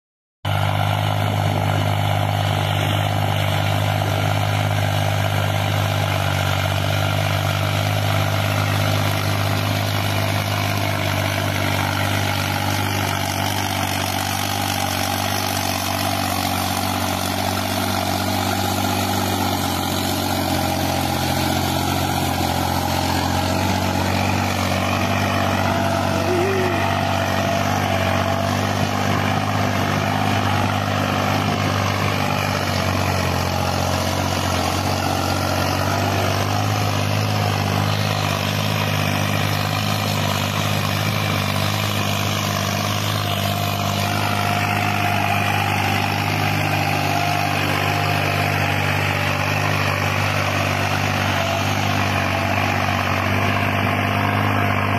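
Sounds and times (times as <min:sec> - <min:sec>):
tractor diesel engine running: 0:00.4 - 0:54.9.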